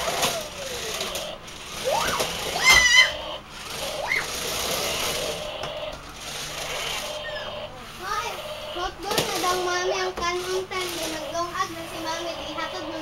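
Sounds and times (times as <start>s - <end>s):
toy car electric motor whirring: 0.0s - 13.0s.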